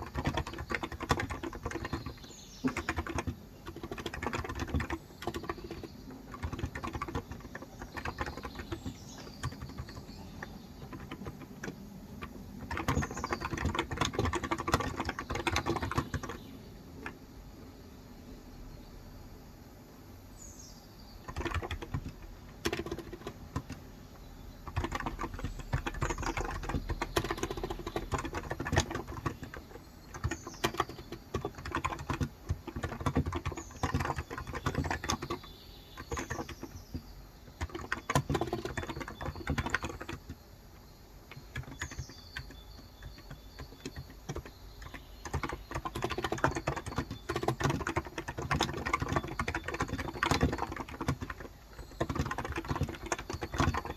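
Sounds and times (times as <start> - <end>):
soft keyboard typing: 0.0 - 17.2, 21.0 - 53.9
birds chirping: 0.0 - 19.1, 20.3 - 53.9.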